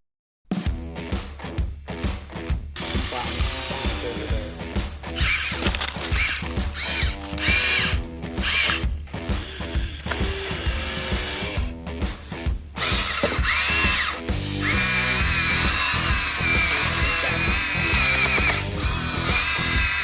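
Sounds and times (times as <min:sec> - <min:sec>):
electric motors whining: 0:02.8 - 0:11.7, 0:12.8 - 0:20.0.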